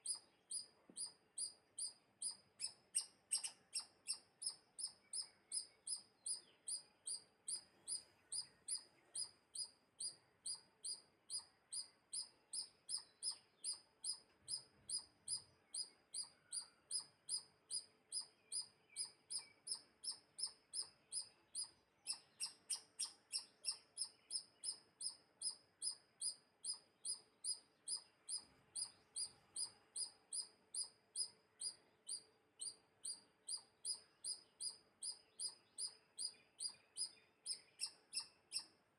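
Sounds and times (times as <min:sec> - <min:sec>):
small bird chirping: 0:00.0 - 0:38.9.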